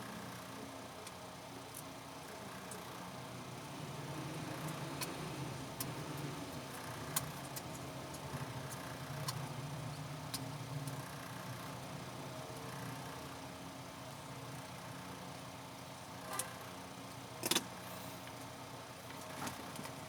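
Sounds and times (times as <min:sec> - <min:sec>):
low engine-like hum: 0:00.5 - 0:20.0.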